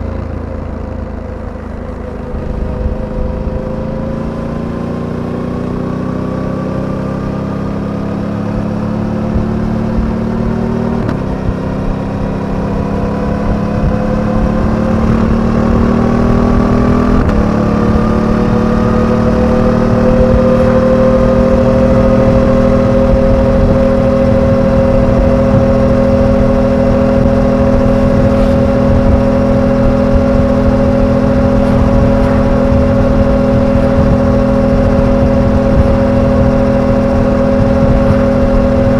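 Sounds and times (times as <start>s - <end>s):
motorcycle engine accelerating: 0.0s - 38.9s
road and wind rumble: 0.0s - 38.9s.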